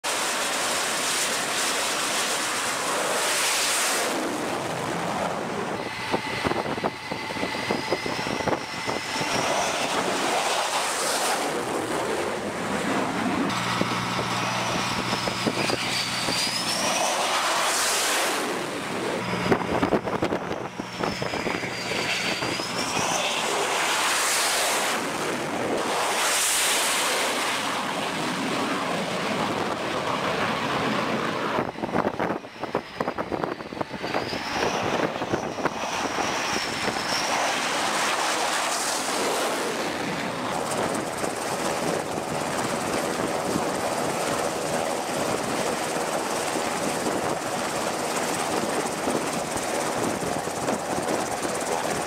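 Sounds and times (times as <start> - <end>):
jet engines roaring at high power: 0.0 - 52.0.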